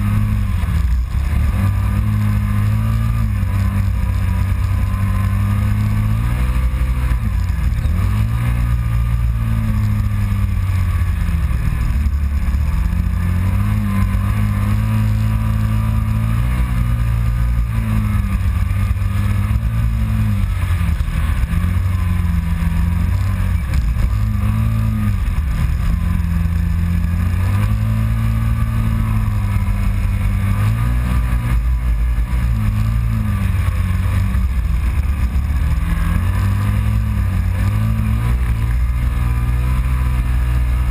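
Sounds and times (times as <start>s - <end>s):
engine running under throttle: 0.0s - 40.9s.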